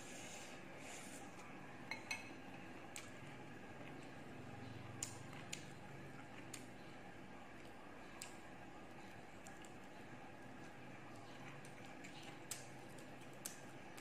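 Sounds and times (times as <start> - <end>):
soft chewing: 2.7 - 14.0.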